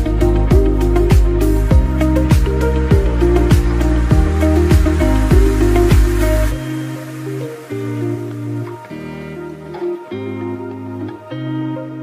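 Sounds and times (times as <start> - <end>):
music with sustained chords: 0.0 - 12.0.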